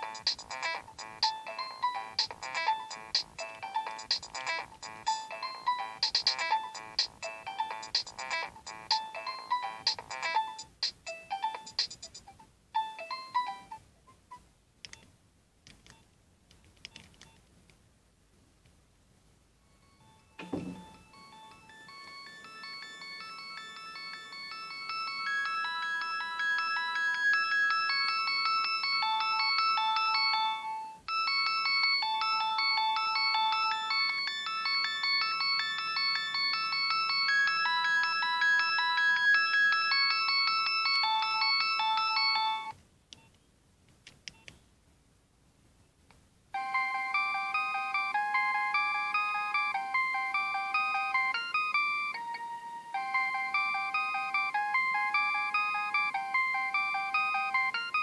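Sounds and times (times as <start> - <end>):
polyphonic phone ringtone: 0.0 - 13.8, 19.6 - 42.8, 46.6 - 58.0.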